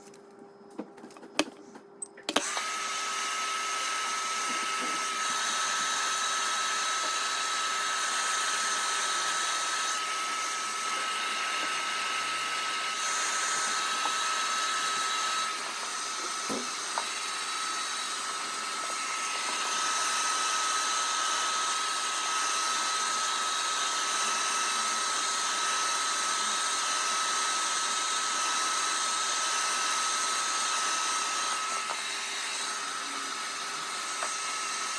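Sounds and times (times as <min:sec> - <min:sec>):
hair dryer blowing: 0:02.3 - 0:34.9.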